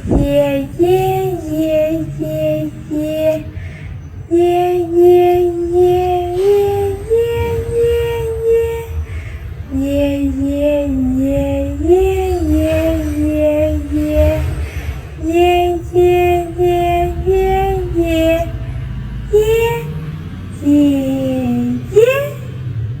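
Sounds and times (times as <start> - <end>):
high voice chanting: 0.0 - 23.0.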